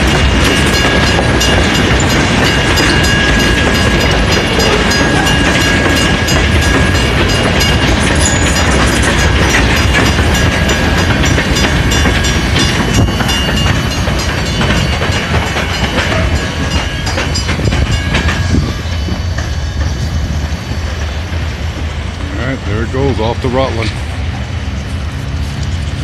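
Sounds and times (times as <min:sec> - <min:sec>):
wheels clicking over rail joints: 0:00.0 - 0:24.2
freight train rumbling past: 0:00.0 - 0:26.0.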